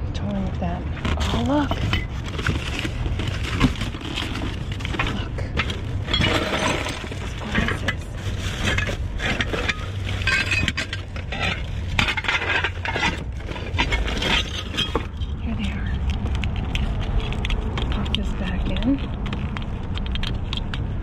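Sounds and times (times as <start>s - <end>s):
steady low rumble: 0.0s - 21.0s
hard items clinking and knocking: 1.0s - 21.0s.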